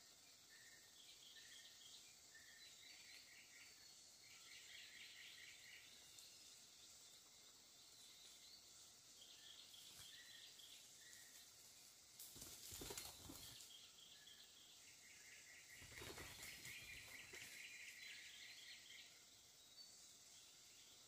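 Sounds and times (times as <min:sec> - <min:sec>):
high insect hiss: 0:00.0 - 0:21.0.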